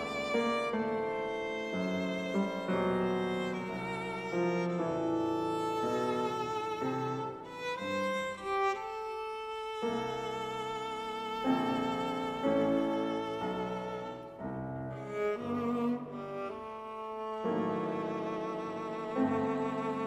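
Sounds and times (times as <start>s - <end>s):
piano chords: 0.0s - 20.0s
viola melody: 0.0s - 20.0s.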